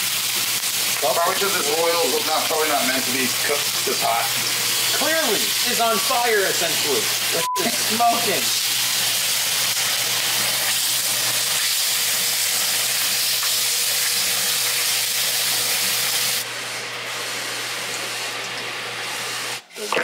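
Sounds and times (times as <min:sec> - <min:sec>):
meat sizzling in hot oil: 0:00.0 - 0:19.7.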